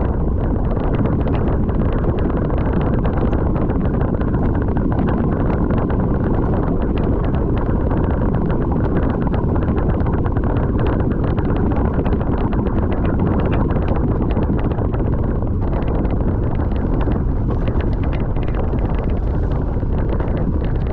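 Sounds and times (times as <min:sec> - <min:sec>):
sharp rattles and knocks: 0:00.0 - 0:20.9
steady low rumble: 0:00.0 - 0:20.9
wind buffeting microphone: 0:00.0 - 0:20.9.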